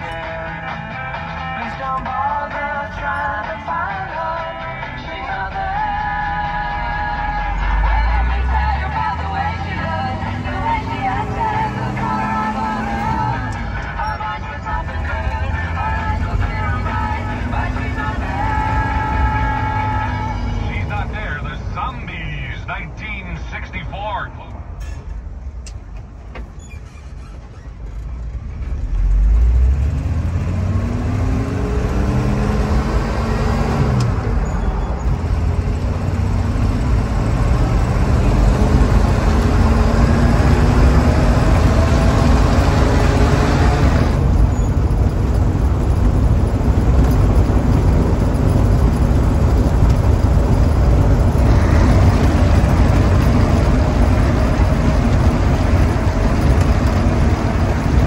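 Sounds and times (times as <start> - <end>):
car engine accelerating: 0.0 - 22.7, 25.2 - 58.0
road and wind noise: 0.0 - 58.0.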